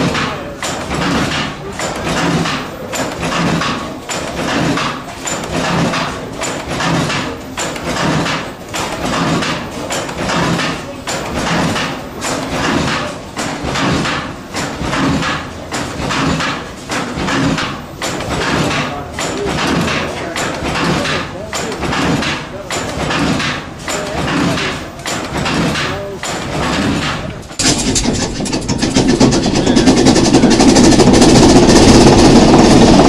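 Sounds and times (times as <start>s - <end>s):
oil engine clanking and knocking: 0.0s - 33.0s.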